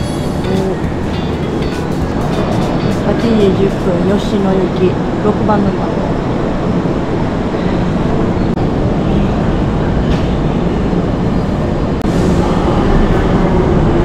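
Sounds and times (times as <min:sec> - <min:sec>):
platform noise: 0:00.0 - 0:14.0
train idling rumble and hum: 0:00.0 - 0:14.0.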